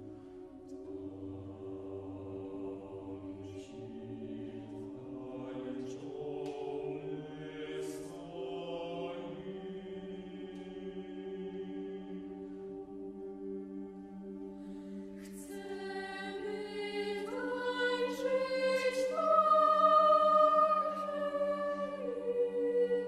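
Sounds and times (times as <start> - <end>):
choir singing unaccompanied: 0.0 - 23.0.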